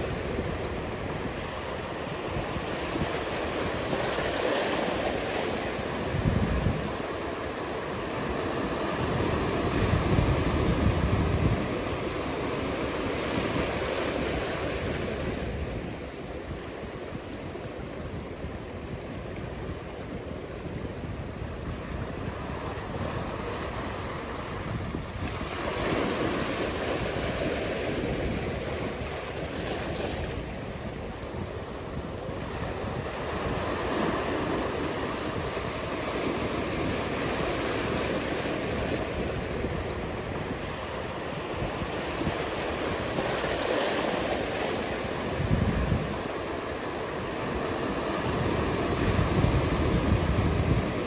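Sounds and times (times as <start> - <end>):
ocean surf breaking: 0.0 - 51.0
wind across microphone: 0.0 - 51.0.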